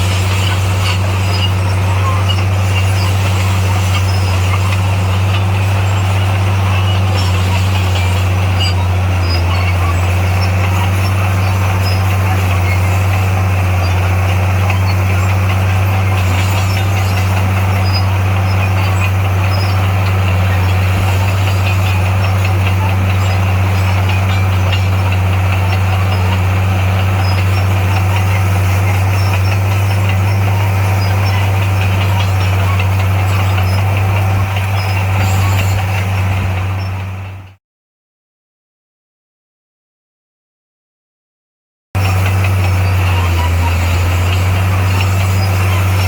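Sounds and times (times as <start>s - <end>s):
diesel engine droning: 0.0s - 37.6s, 42.0s - 46.0s.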